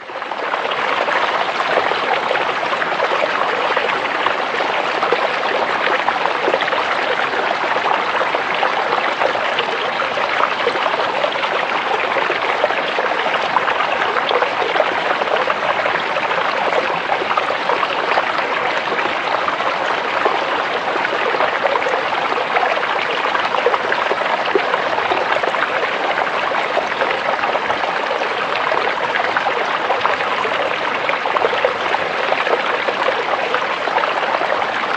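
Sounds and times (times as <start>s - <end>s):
creek water babbling over rocks: 0.0s - 34.9s.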